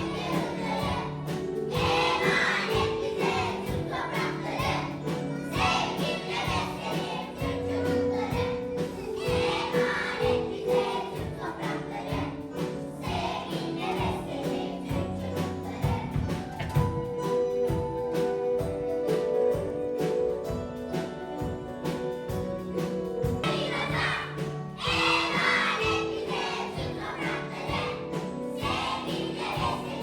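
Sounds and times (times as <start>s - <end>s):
children's chorus singing: 0.0s - 17.8s, 23.4s - 30.0s
musical backing: 0.0s - 30.0s.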